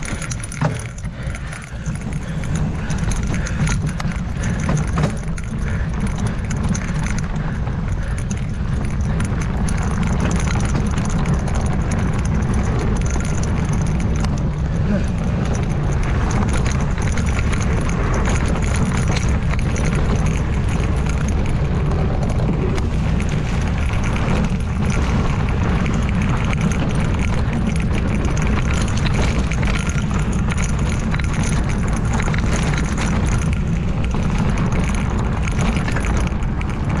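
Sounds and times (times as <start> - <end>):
bike tyre and frame rattle: 0.0 - 37.0
wind rushing over microphone: 0.0 - 37.0.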